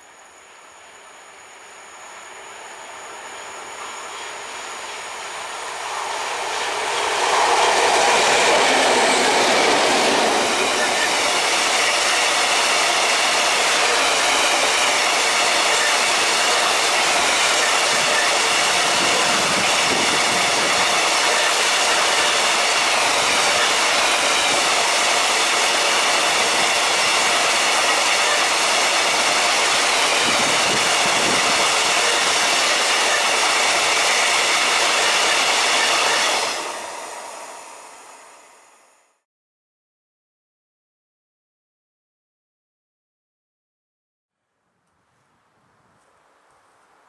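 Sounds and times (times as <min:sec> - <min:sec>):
freight train rolling past: 0:00.4 - 0:39.0.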